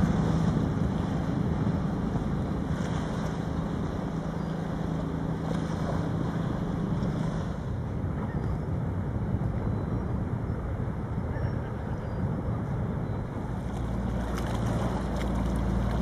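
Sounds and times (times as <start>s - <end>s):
ferry engine humming: 0.0s - 16.0s
wind buffeting microphone: 0.0s - 16.0s.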